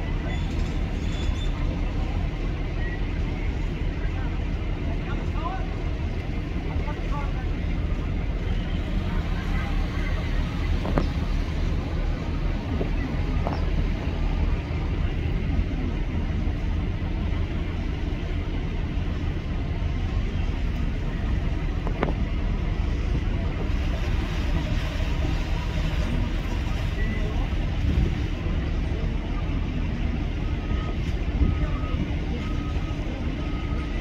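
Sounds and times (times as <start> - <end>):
diesel machinery rumbling: 0.0 - 34.0.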